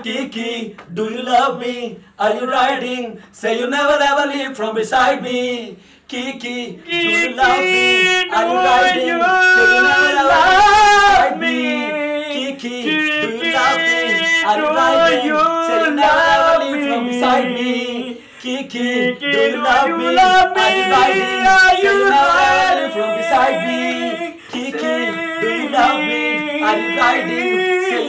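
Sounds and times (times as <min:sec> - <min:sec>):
men singing: 0:00.0 - 0:28.0.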